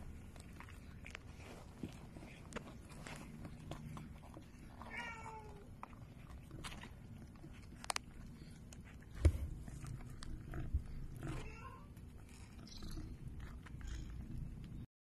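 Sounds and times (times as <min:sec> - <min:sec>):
cat licking kitten: 0:00.0 - 0:14.9.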